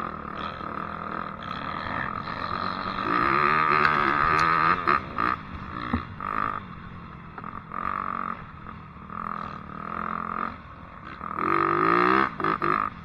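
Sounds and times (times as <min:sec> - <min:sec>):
dirt bike engine revving: 0:00.0 - 0:06.7, 0:09.1 - 0:13.0.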